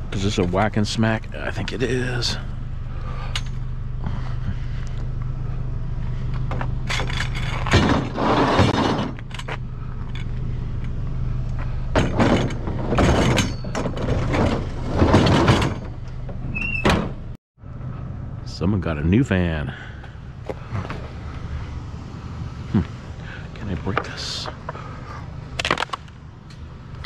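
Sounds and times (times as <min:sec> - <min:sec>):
vehicle engine idling: 0:00.0 - 0:07.8, 0:09.2 - 0:14.8, 0:17.6 - 0:27.0.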